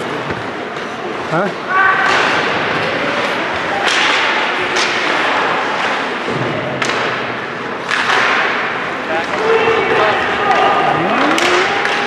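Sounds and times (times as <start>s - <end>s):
venue background noise: 0.0s - 12.0s.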